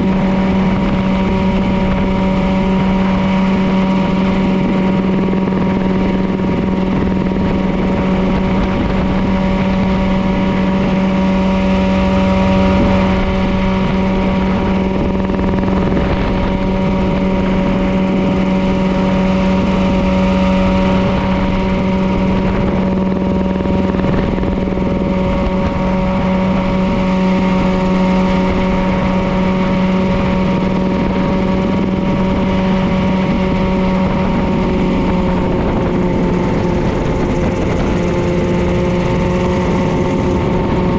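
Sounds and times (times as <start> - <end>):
helicopter engine in flight: 0.0 - 40.9
noisy rush: 0.0 - 40.9.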